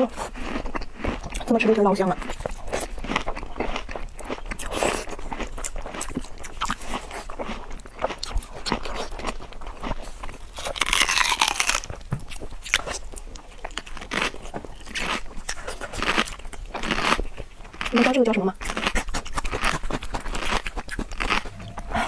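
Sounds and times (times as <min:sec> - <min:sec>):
wet chewing and smacking: 0:00.0 - 0:22.0.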